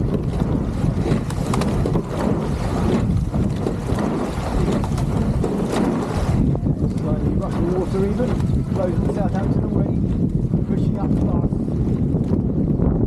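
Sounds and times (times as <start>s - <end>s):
water noise from hull: 0.0s - 13.0s
wind buffeting microphone: 0.0s - 13.0s.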